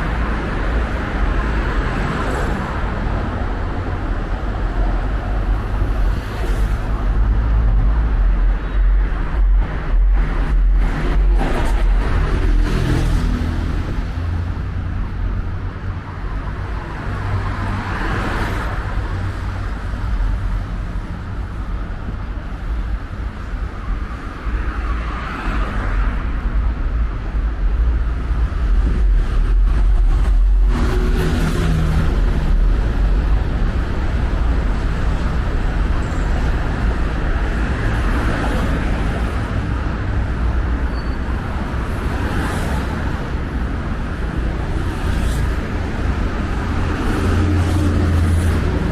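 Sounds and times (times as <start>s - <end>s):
traffic rumble: 0.0s - 48.9s
vehicles passing: 0.0s - 48.9s.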